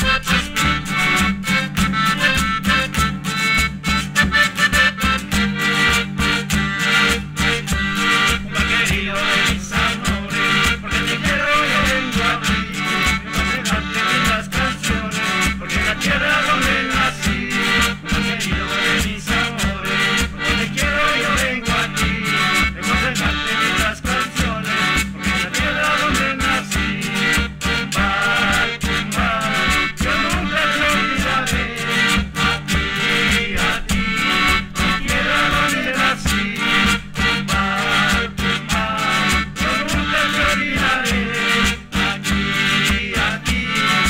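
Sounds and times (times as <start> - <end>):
folk instrumental group playing: 0.0 - 44.0.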